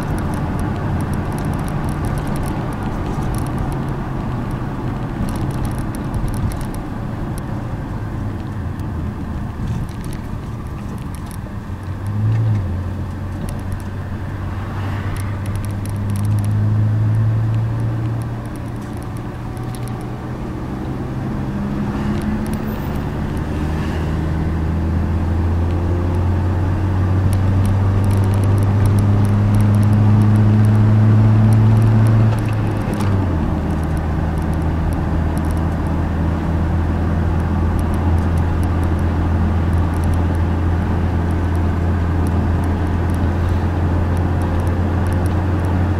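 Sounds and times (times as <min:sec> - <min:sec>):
car engine hum: 0:00.0 - 0:45.9
road rumble: 0:00.0 - 0:45.9.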